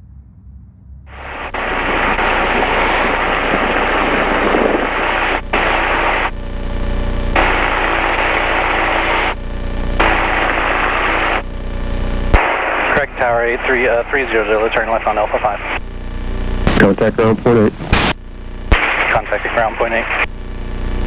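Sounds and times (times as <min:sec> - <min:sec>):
radio static hiss: 0:01.1 - 0:21.0
radio-filtered aircraft engine: 0:01.1 - 0:21.0.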